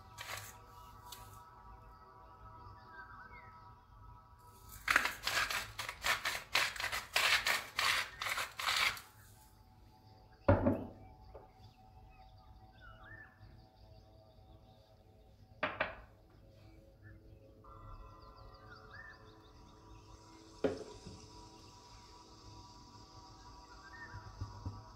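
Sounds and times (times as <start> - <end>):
faint background music: 0.0 - 24.9.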